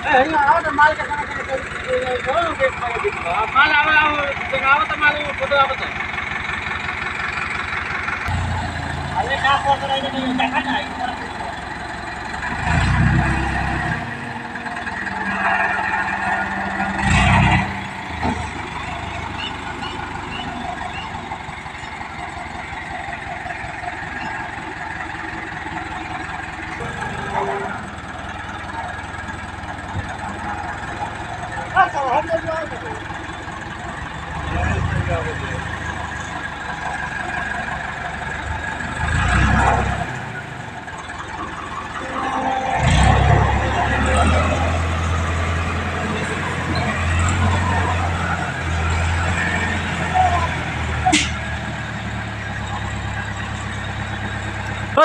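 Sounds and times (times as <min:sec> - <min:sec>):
crane diesel engine running: 0:00.0 - 0:55.0.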